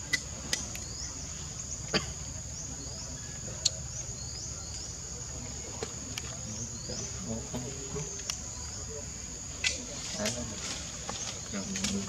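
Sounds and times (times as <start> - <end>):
insects droning high-pitched: 0.0 - 12.0.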